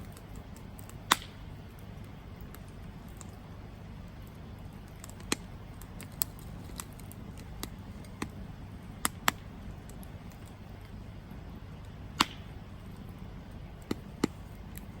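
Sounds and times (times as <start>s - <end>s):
campfire crackling: 0.0s - 15.0s
low steady rumble: 0.0s - 15.0s.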